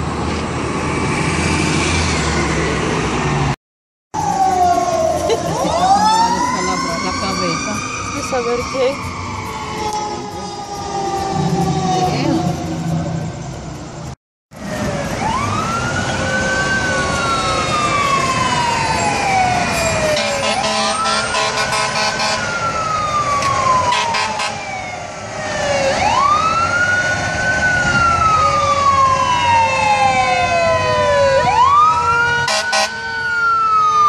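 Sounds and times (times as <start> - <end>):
street traffic: 0.0 - 34.0
fire engine siren wailing: 4.2 - 13.4, 14.5 - 34.0.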